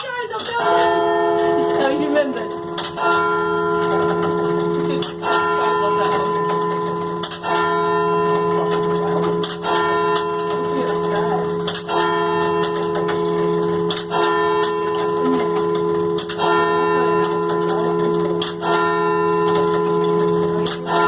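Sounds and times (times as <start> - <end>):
church bell striking: 0.5 - 21.0.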